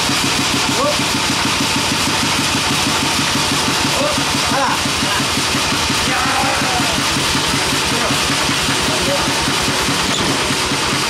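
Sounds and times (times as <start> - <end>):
engine chugging: 0.0 - 11.0.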